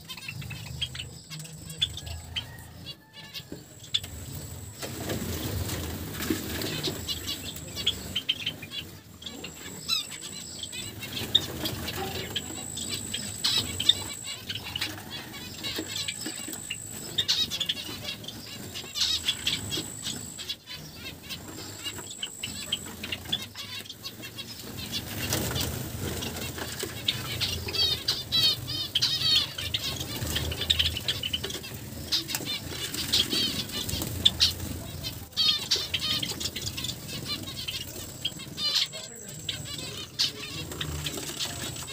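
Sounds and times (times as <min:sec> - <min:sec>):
finches chirping and calling: 0:00.0 - 0:41.9
rapid trilled bird song: 0:00.0 - 0:41.9
wings flapping: 0:04.0 - 0:08.9, 0:09.5 - 0:41.9.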